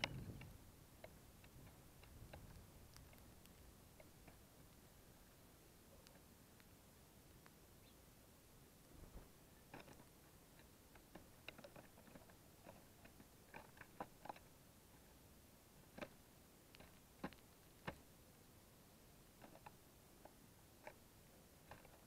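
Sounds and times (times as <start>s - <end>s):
birds pecking and cracking seeds: 0.0s - 22.0s.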